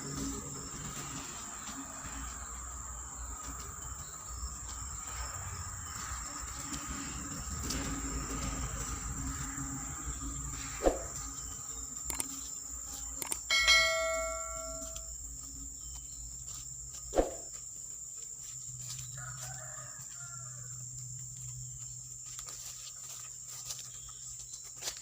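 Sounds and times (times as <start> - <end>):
high-pitched insect buzz: 0.0 - 22.8.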